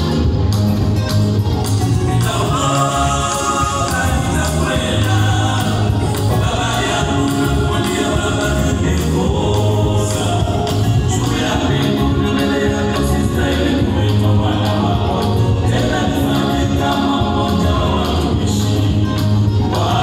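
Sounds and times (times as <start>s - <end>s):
steady beat and bass line: 0.0s - 20.0s
gospel choir singing: 1.8s - 20.0s.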